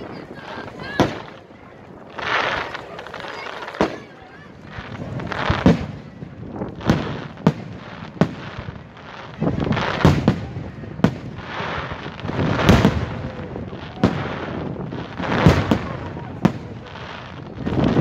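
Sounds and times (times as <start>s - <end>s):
firework crackling: 0.0s - 18.0s.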